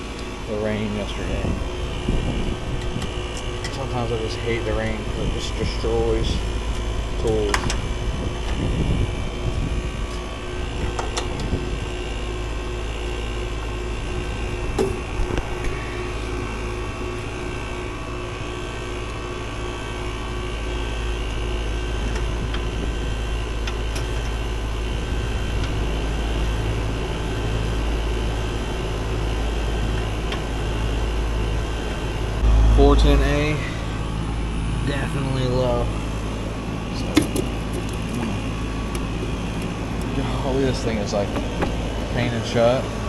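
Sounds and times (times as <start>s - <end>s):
air conditioner unit running: 0.0s - 43.0s.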